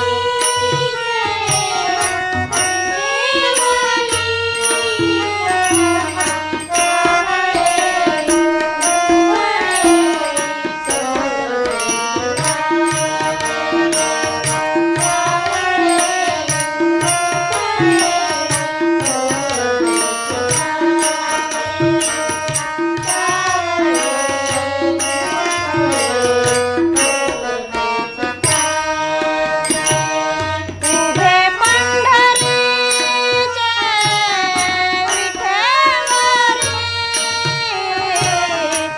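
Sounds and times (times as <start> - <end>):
steady percussion rhythm: 0.0 - 38.9.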